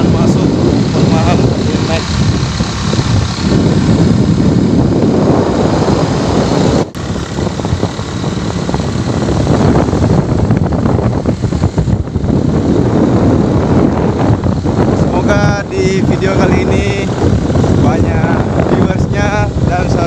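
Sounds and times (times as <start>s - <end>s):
vehicle engine running: 0.0s - 20.0s
wind buffeting microphone: 0.0s - 20.0s.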